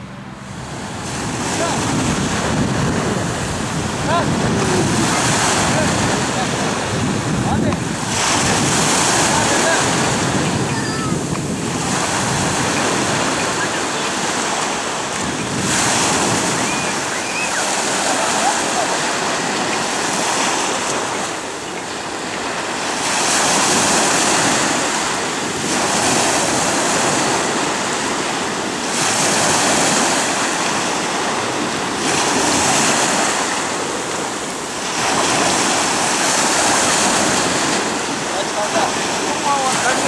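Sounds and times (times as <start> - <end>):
waves washing on stony beach: 0.5 - 40.0.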